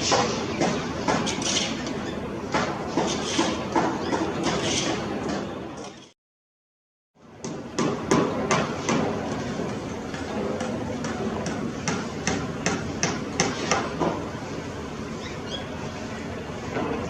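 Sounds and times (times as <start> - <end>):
steady background noise: 0.0 - 6.2, 7.2 - 17.0.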